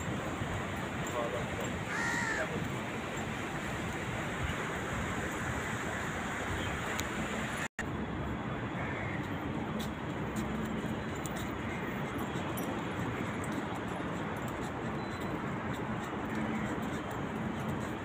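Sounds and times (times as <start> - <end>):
city traffic rumbling: 0.0 - 18.0.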